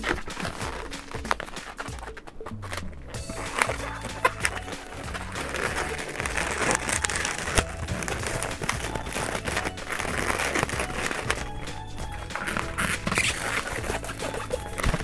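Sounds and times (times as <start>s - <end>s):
balloons squeaking and rubbing: 0.0s - 15.0s
soft background music: 0.0s - 15.0s.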